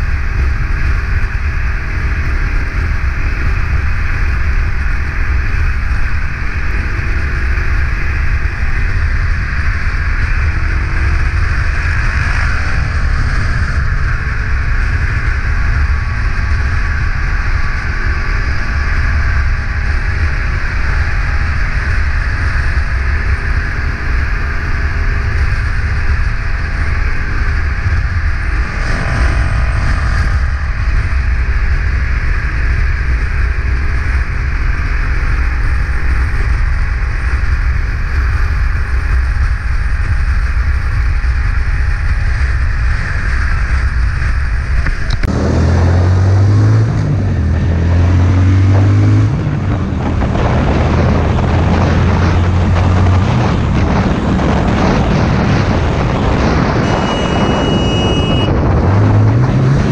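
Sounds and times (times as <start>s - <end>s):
motorcycle engine drone: 0.0s - 59.9s
road noise: 0.0s - 59.9s
rushing wind: 0.0s - 59.9s.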